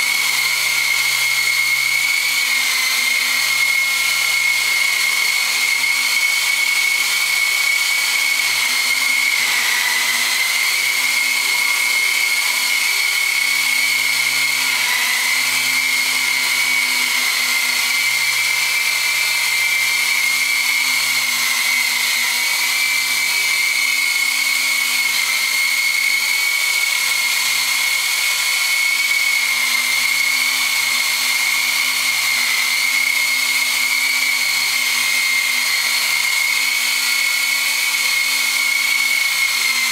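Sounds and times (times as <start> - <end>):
model helicopter rotors whining: 0.0 - 39.9.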